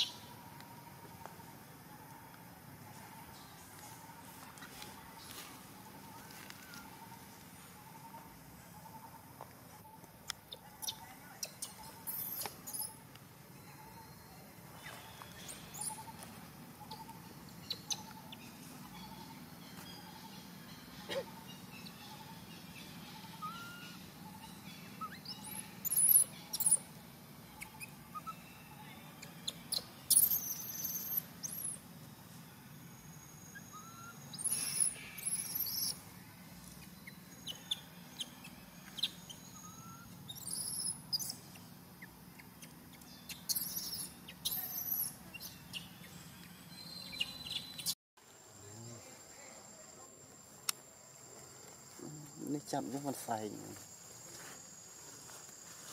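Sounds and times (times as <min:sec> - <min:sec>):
faint outdoor background: 0:00.0 - 0:55.9.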